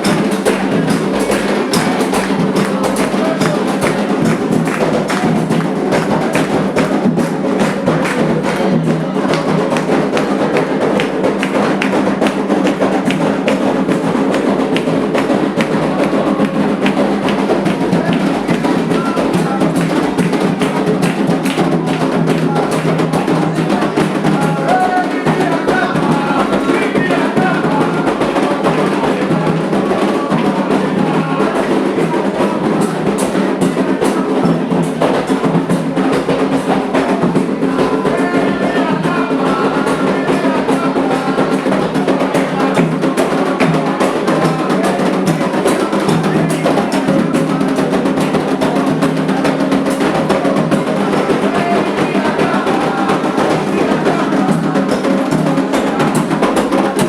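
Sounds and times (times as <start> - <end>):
hand drums playing rhythm: 0.0 - 57.0.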